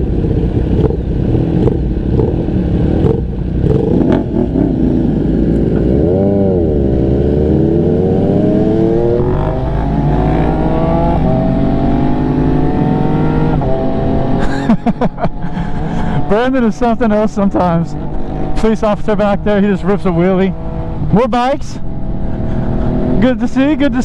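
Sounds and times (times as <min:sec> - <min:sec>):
motorcycle engine revving: 0:00.0 - 0:14.5, 0:15.3 - 0:24.0.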